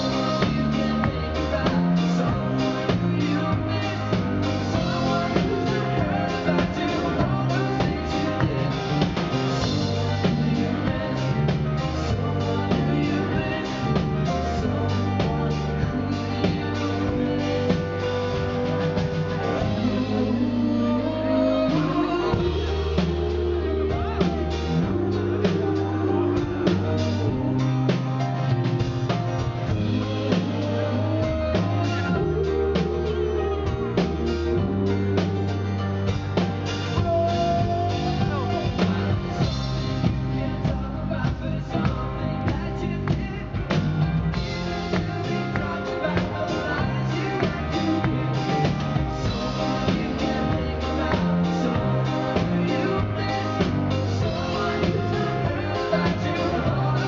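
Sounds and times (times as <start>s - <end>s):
bass guitar low notes: 0.0s - 57.0s
guitar: 0.0s - 57.0s
person singing: 0.0s - 57.0s.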